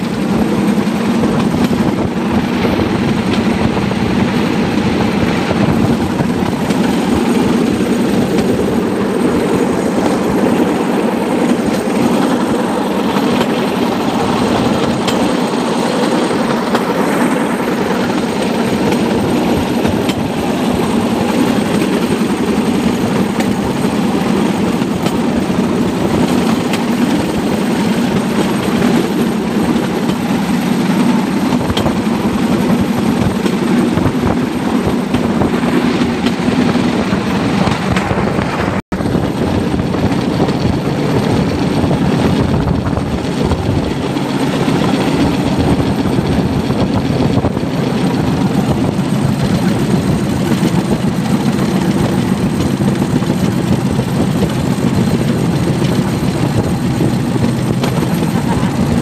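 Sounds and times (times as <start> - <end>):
small rail vehicle engine running: 0.0 - 59.0.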